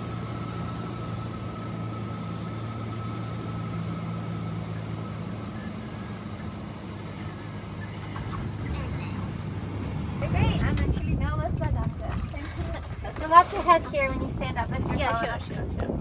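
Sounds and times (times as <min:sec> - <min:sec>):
propeller plane engine running: 0:00.0 - 0:16.0.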